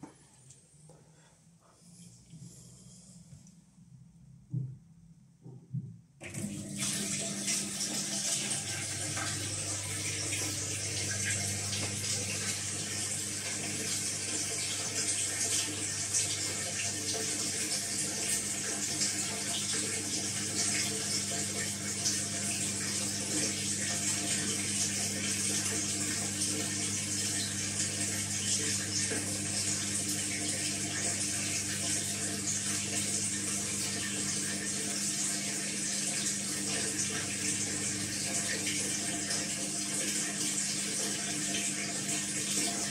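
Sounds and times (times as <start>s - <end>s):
washing machine low hum: 0.0s - 42.9s
water rushing through washing machine: 6.2s - 42.9s.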